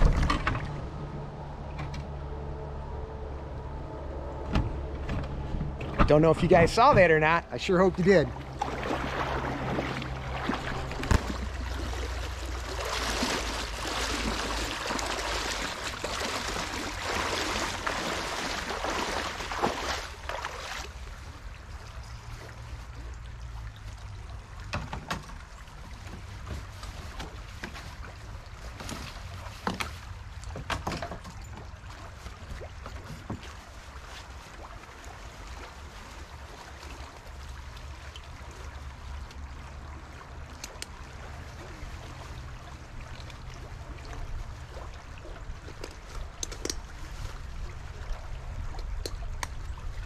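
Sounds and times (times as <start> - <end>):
river water over gravel: 0.0 - 50.0.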